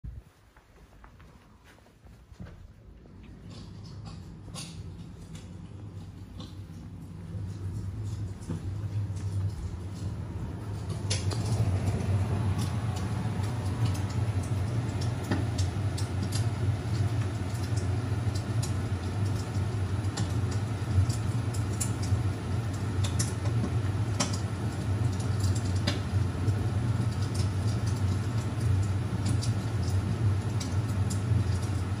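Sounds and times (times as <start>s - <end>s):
fire crackling: 3.0s - 32.0s.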